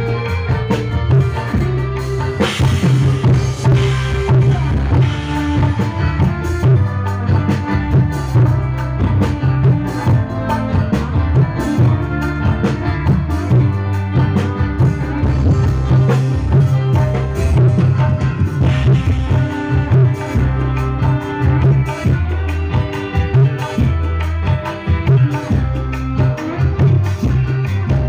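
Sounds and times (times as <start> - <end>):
bass line: 0.0 - 28.0
live band music over loudspeakers: 0.0 - 28.0
drum hits: 0.9 - 27.4.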